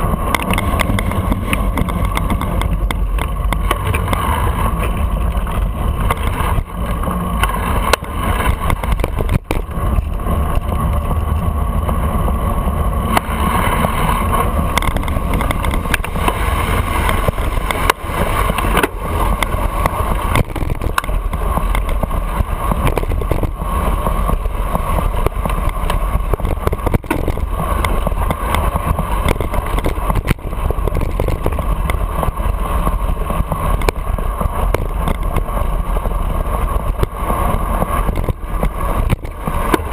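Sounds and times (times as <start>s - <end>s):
city traffic: 0.0s - 39.9s
wind rushing over microphone: 0.0s - 39.9s.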